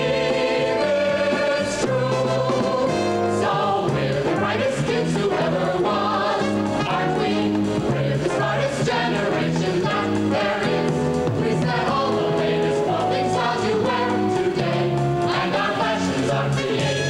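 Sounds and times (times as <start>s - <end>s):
band accompaniment: 0.0s - 17.0s
young choir singing: 0.0s - 17.0s.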